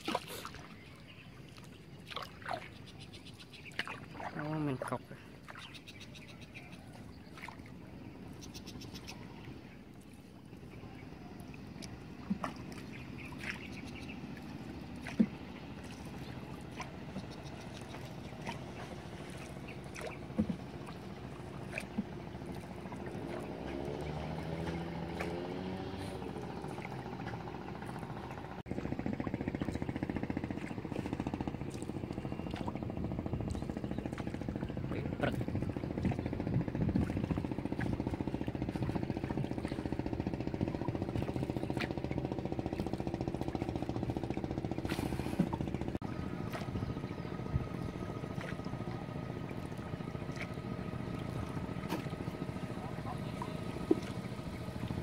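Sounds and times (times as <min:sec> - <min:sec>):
boat motor running: 0:00.0 - 0:55.0
water and wind noise: 0:00.0 - 0:55.0.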